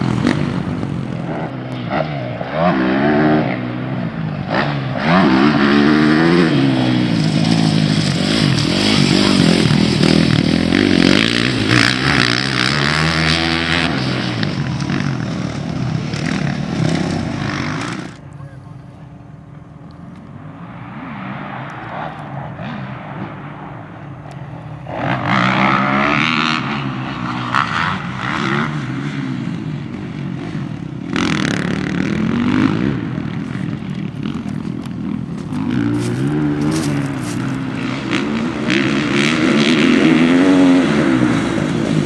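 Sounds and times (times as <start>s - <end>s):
motocross bike engines revving: 0.0s - 42.0s.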